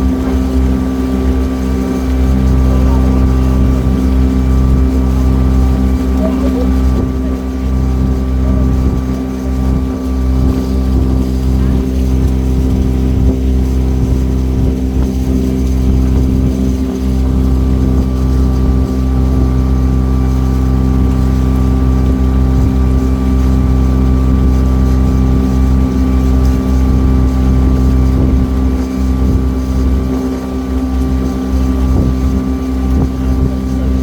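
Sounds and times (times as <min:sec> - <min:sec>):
boat engine drone: 0:00.0 - 0:34.0.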